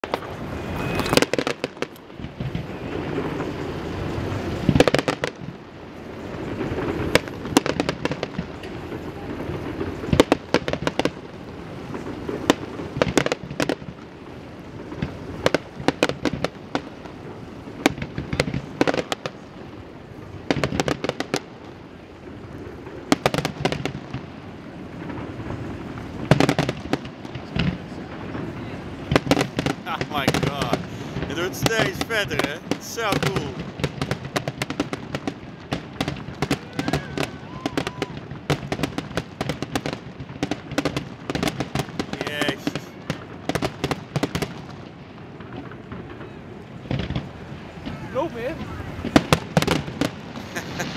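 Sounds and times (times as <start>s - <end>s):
firework shells bursting: 0.0s - 19.4s, 20.2s - 46.2s, 46.8s - 50.9s
rapid crackling cracks: 0.0s - 19.5s, 20.5s - 50.9s.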